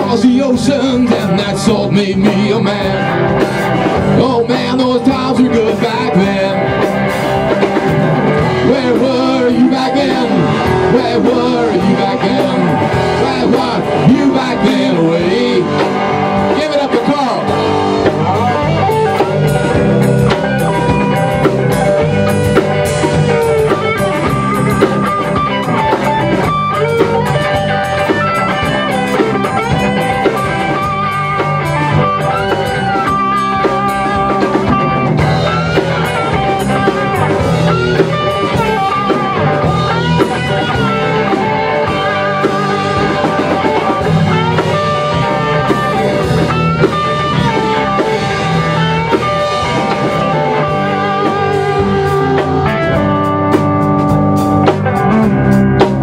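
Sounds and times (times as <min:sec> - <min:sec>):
electric guitar solo: 0:00.0 - 0:56.0
rock band playing: 0:00.0 - 0:56.0.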